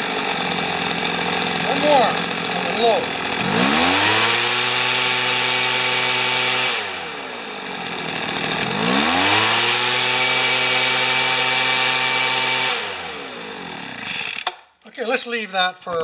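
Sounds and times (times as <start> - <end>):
leaf blower engine revving: 0.0 - 14.6.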